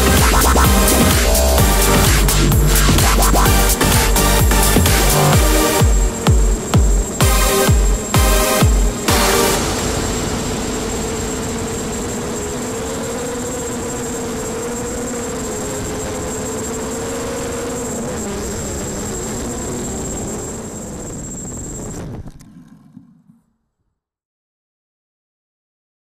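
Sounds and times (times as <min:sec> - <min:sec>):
high electronic whine: 0:00.0 - 0:22.6
drone motors whining: 0:00.0 - 0:23.4.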